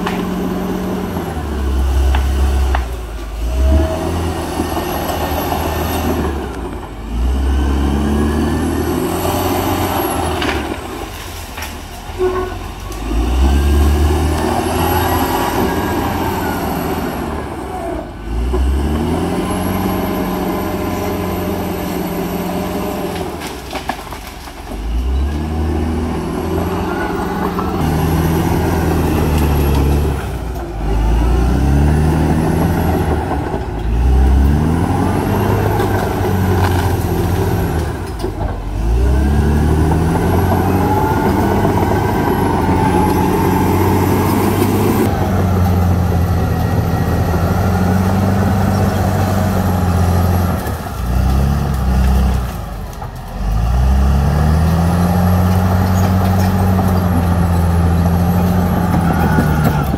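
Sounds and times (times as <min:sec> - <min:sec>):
bulldozer diesel engine revving: 0:00.0 - 0:59.9.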